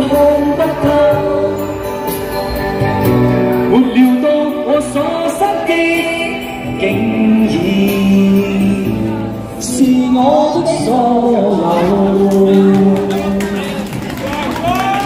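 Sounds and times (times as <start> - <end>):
pop music with singing: 0.0 - 15.0.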